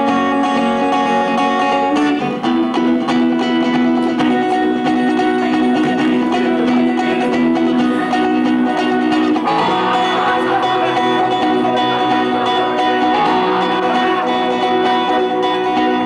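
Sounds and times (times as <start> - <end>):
instrumental rock music with guitar: 0.0 - 16.0.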